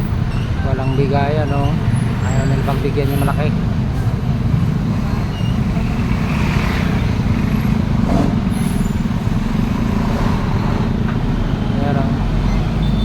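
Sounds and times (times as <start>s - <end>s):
road traffic: 0.0s - 13.0s
truck engine rumbling: 0.0s - 13.0s.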